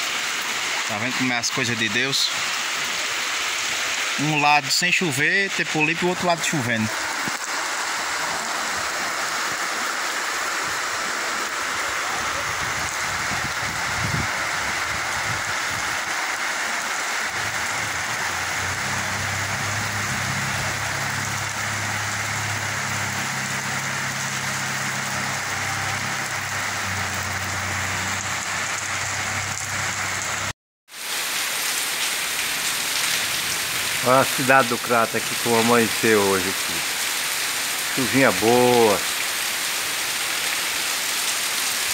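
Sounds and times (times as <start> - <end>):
heavy rain on pavement: 0.0 - 41.9.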